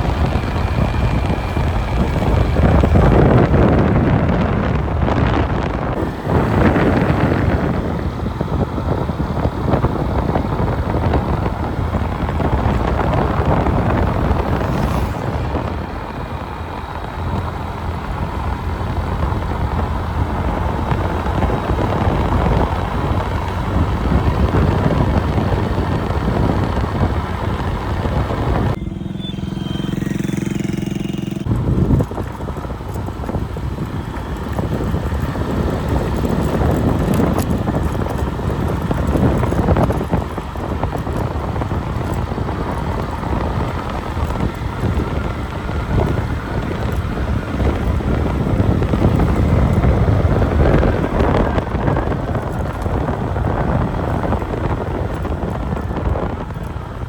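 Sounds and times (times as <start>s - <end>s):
low engine hum: 0.0s - 57.0s
vehicle running noise: 0.0s - 57.0s
wind buffeting microphone: 0.0s - 57.0s.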